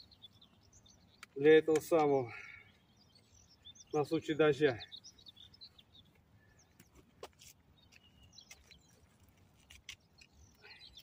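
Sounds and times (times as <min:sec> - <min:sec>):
distant bird chirps: 0:00.0 - 0:11.0.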